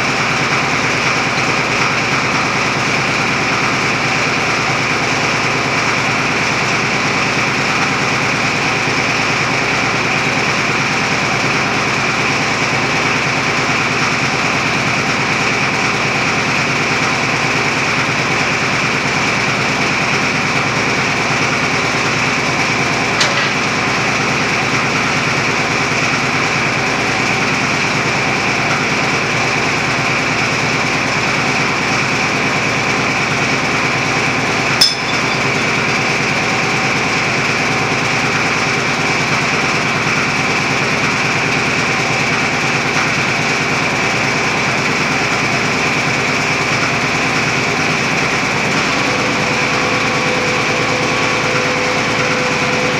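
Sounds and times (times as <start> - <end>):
hydraulic drilling rig running: 0.0 - 52.9.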